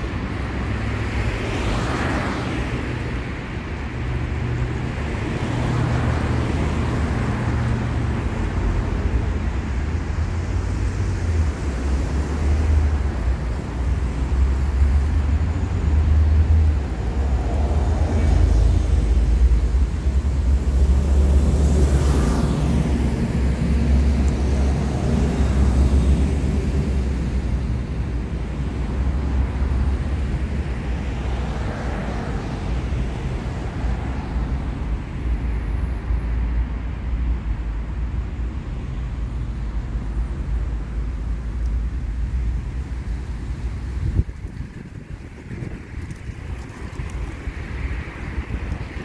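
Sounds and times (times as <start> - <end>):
low traffic rumble: 0.0 - 49.0.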